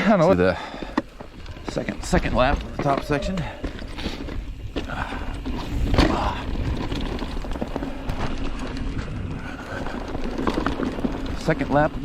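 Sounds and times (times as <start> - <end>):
bike clattering over bumps: 0.0 - 12.0
bike tyres rumbling on dirt: 0.0 - 12.0.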